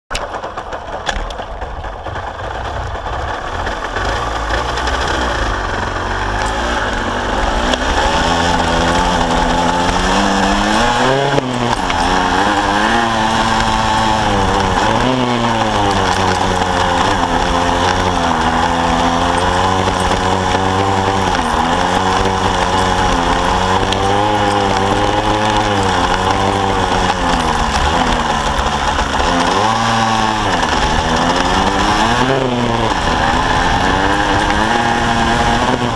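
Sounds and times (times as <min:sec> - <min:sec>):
two-stroke motorcycle engine: 0:00.1 - 0:35.9.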